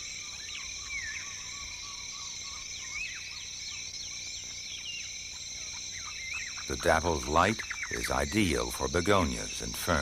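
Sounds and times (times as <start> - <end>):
insect chorus droning: 0.0 - 10.0
insect trill: 0.0 - 10.0.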